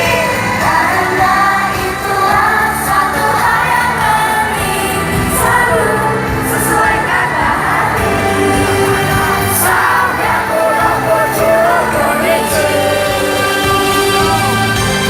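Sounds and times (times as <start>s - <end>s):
pop backing track over pa: 0.0s - 15.0s
women singing pop in unison: 0.0s - 15.0s.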